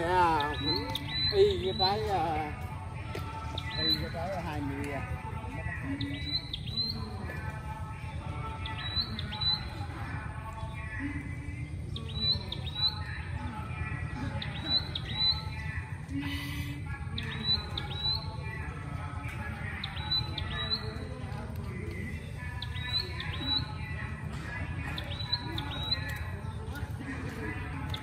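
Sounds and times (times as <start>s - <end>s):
low rumble of city traffic: 0.0s - 28.0s
small birds chirping: 0.0s - 28.0s.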